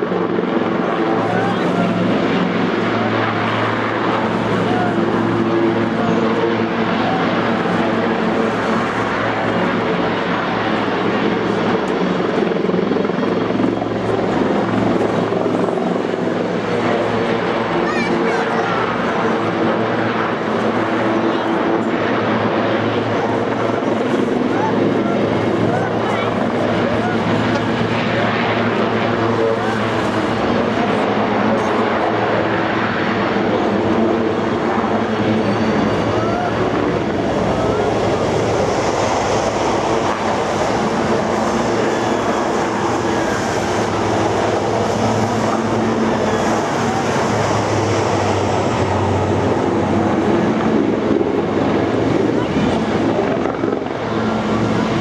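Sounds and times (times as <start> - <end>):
helicopters hovering: 0.0 - 55.0.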